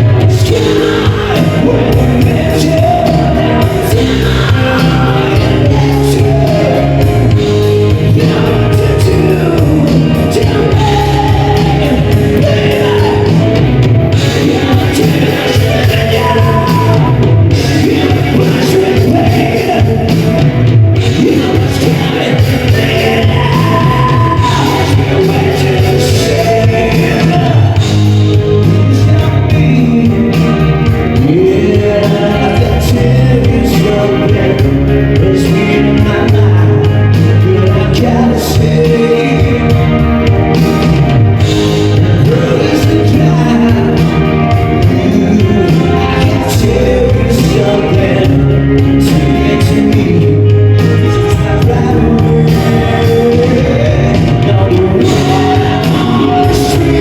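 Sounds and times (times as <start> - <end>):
live band playing amplified music: 0.0 - 57.0.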